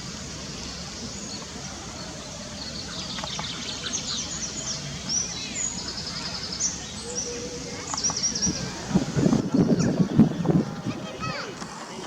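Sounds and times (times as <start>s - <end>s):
small birds chirping: 0.0s - 12.0s
steady background noise: 0.0s - 12.0s.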